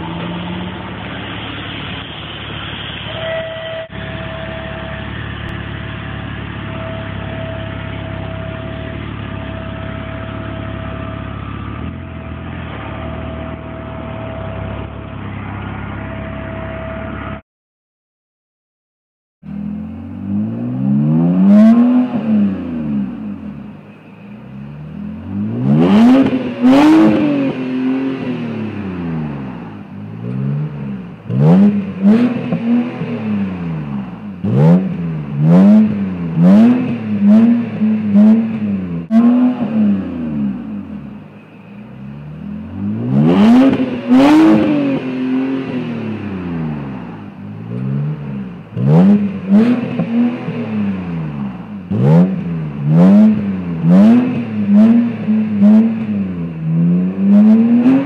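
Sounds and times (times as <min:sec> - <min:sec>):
car engine revving: 0:04.0 - 0:16.2, 0:19.4 - 0:58.0.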